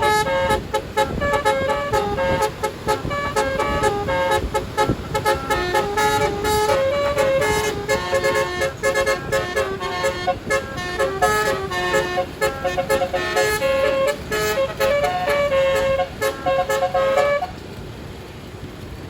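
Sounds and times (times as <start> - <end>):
musical bus horn melody: 0.0 - 17.7.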